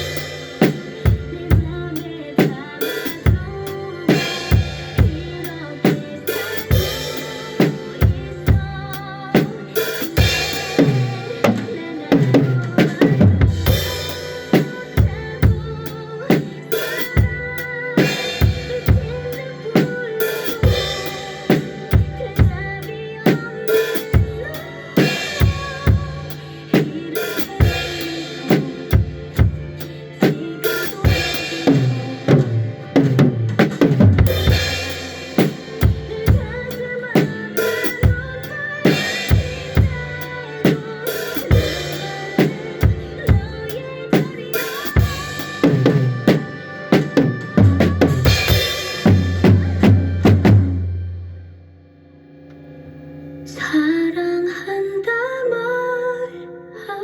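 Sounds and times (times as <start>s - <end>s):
recorded song accompaniment: 0.0s - 51.2s, 53.4s - 57.0s.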